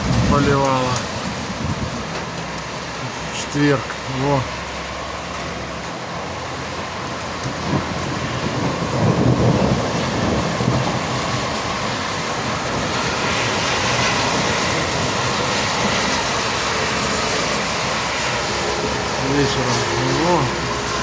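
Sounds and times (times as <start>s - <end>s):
low thunder rumble: 0.0s - 3.1s, 4.0s - 21.0s
heavy rain: 0.0s - 21.0s.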